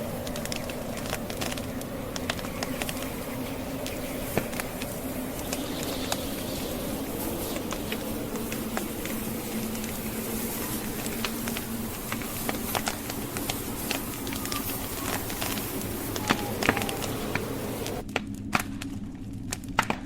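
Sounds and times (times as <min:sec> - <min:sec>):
blizzard wind rushing: 0:00.0 - 0:18.1
logs crackling in fireplace: 0:00.0 - 0:20.0.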